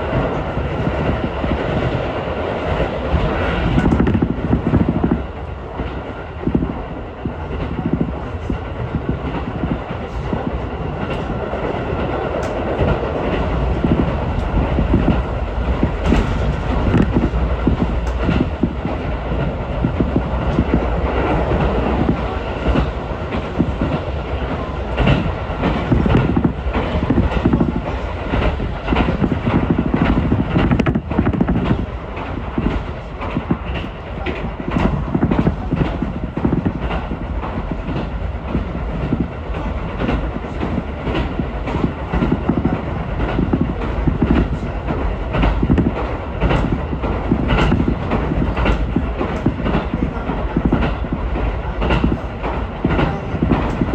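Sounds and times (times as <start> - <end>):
train wheels rumbling on rail: 0.0 - 53.9
wheels clicking over rail joints: 2.7 - 53.9.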